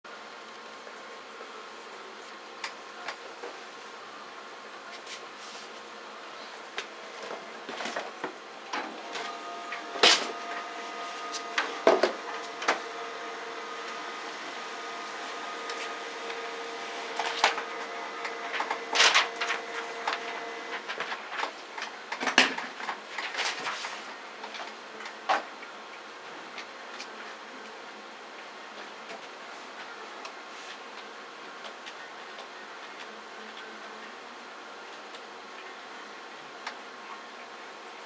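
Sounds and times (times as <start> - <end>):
steady mechanical hum: 0.1 - 38.0.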